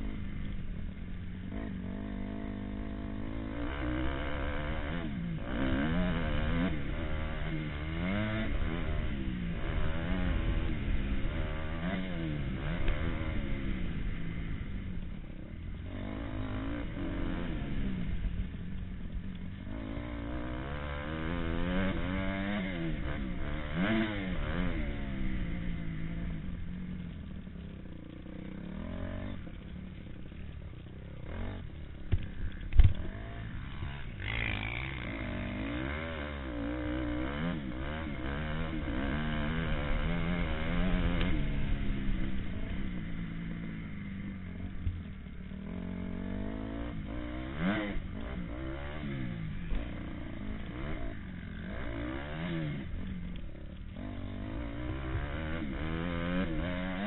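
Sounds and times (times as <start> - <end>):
motocross bike engine racing: 0.0 - 57.0.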